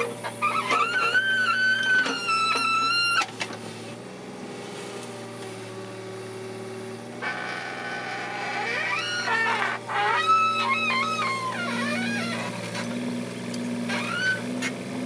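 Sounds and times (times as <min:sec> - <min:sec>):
hydraulic whine: 0:00.0 - 0:04.0, 0:04.7 - 0:15.0
excavator diesel engine hum: 0:00.0 - 0:15.0.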